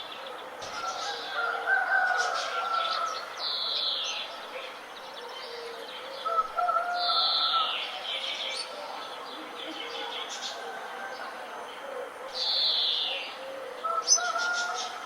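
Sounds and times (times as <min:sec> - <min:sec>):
birds singing and calling: 0:00.0 - 0:15.0.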